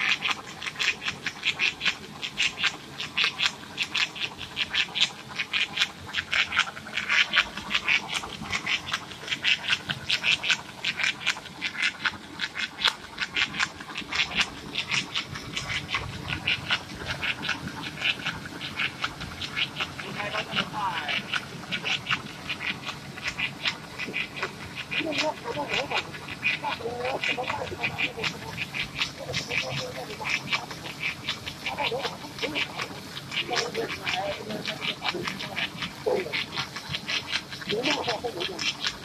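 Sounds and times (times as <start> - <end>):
tape printing machine clacking: 0.0 - 39.0.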